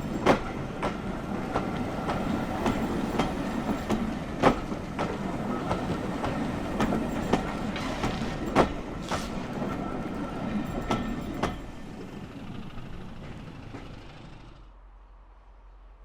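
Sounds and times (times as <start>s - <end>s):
wheels clicking over rail joints: 0.0s - 14.6s
train rumbling past: 0.0s - 16.0s.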